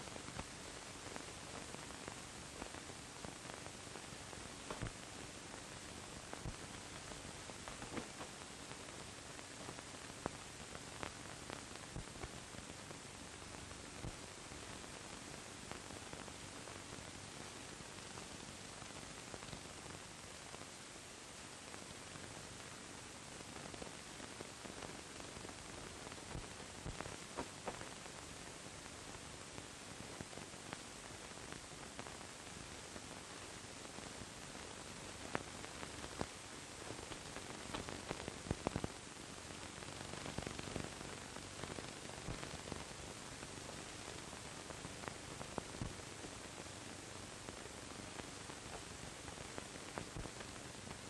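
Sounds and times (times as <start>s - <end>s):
faint clicks and crackles: 0.0s - 51.0s
film soundtrack hiss: 0.0s - 51.0s.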